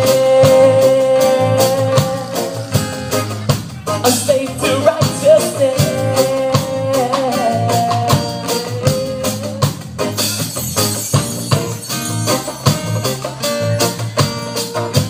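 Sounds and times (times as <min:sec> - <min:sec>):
drum kit beat: 0:00.0 - 0:15.0
live reggae band playing: 0:00.0 - 0:15.0
strummed guitars: 0:00.0 - 0:15.0.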